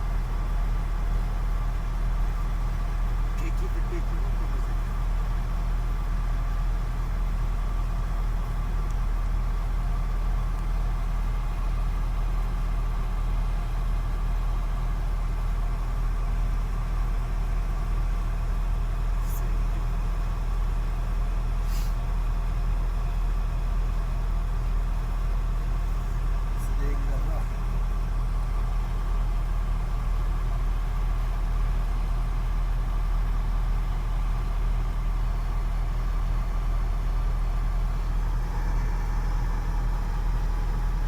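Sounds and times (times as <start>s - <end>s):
truck crane engine running: 0.0s - 41.0s.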